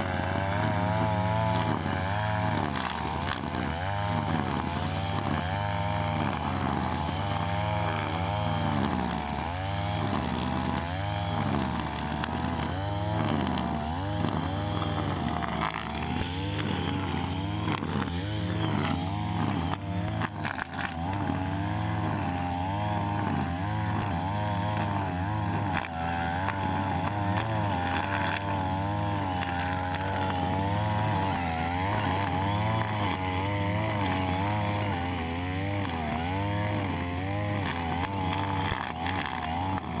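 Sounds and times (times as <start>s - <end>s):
brush cutter engine cutting grass: 0.0s - 40.0s.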